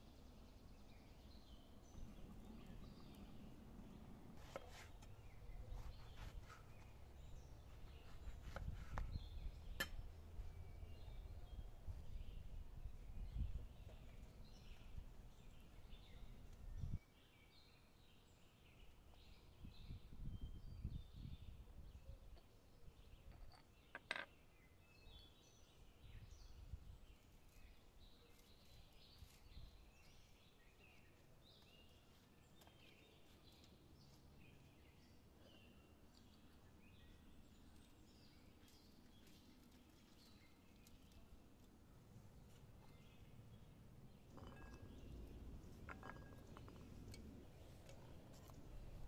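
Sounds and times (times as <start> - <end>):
faint birdsong chirps: 0.0 - 49.0.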